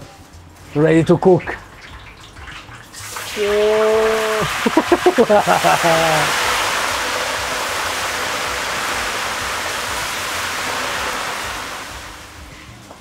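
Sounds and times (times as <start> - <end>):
fish sizzling in hot oil: 1.6 - 12.6.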